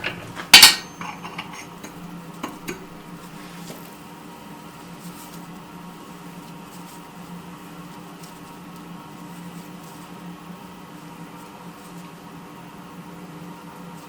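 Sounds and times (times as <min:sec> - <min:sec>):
forge air blower humming: 0:00.0 - 0:14.0.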